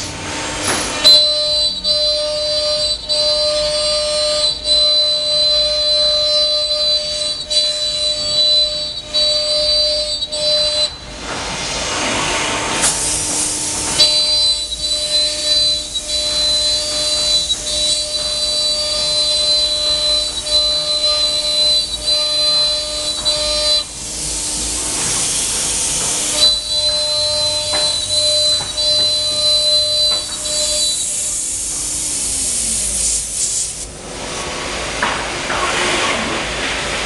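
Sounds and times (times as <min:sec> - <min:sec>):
router spindle high whine: 0:01.0 - 0:12.1, 0:13.0 - 0:33.3.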